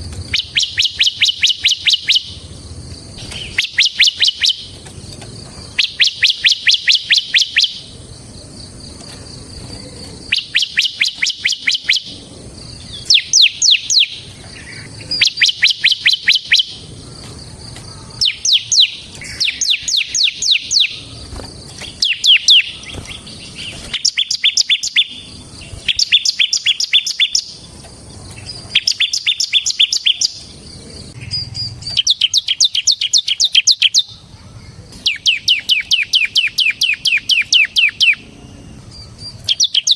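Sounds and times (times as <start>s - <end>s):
bird singing rattling trill: 0.0s - 39.9s.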